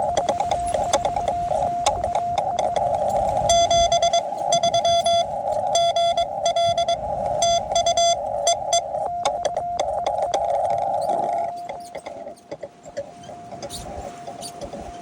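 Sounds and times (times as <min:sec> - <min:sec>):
buzzy higher beeps: 0:00.0 - 0:14.9
morse code beeps: 0:00.0 - 0:15.0
receiver hiss: 0:00.0 - 0:15.0
wind rumble on microphone: 0:00.0 - 0:15.0.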